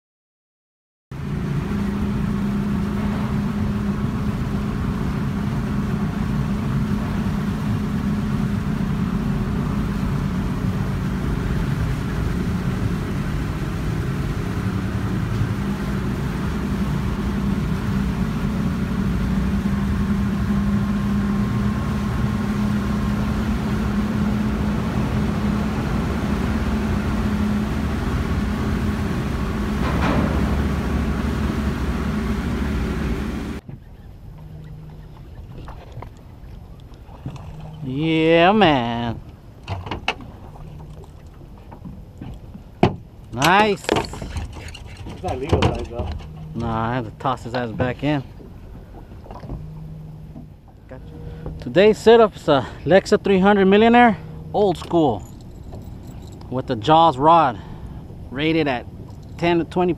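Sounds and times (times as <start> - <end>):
boat engine droning: 1.2 - 59.9.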